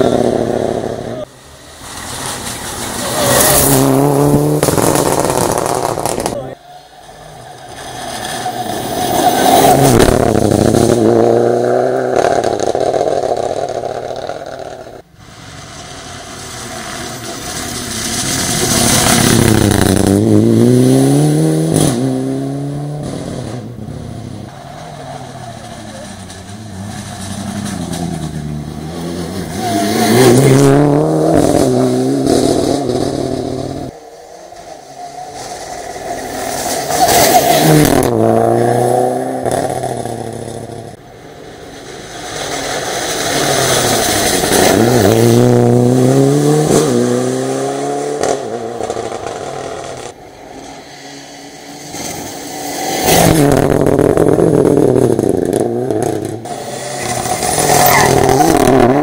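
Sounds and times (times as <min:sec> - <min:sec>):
rally cars passing: 0:00.0 - 0:59.0.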